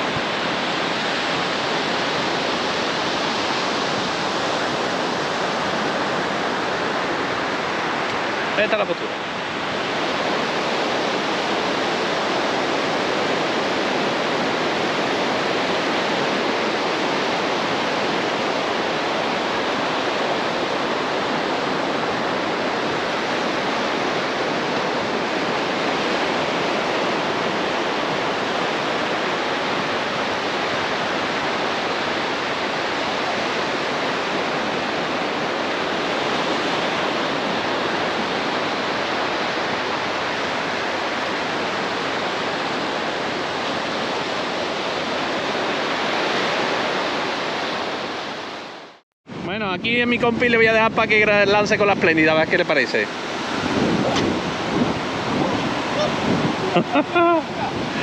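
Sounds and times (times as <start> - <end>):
surf breaking on beach: 0.0 - 58.0.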